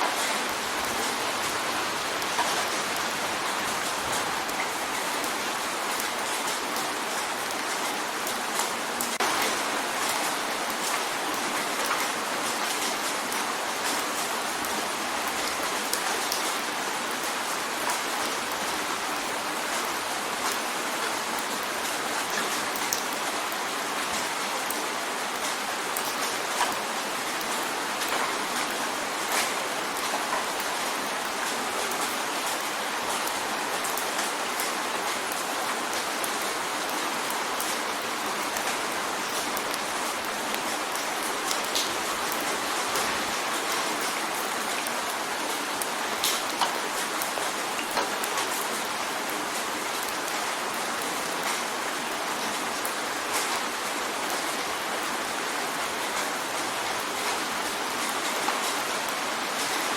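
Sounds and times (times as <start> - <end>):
rain drumming on a window: 0.0 - 59.9.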